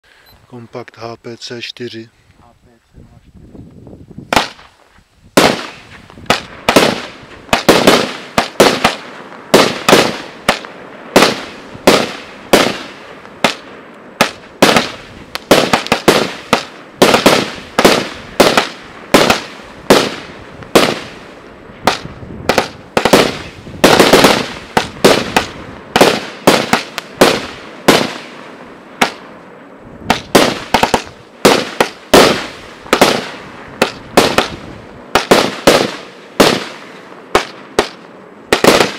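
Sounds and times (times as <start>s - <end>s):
fireworks shells bursting: 4.3s - 21.2s, 21.8s - 29.3s, 30.0s - 38.9s
fireworks firing sharp reports: 4.3s - 29.3s, 30.0s - 38.9s.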